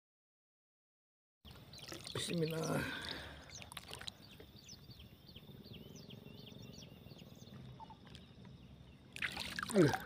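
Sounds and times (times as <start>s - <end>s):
bird chirping: 1.5s - 10.0s.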